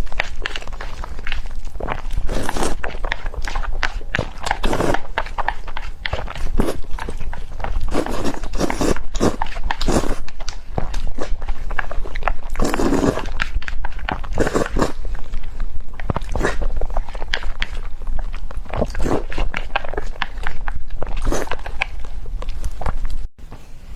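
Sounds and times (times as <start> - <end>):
mouth smacks and clicks: 0.0 - 23.2
slurping and chewing noodles: 0.0 - 23.3.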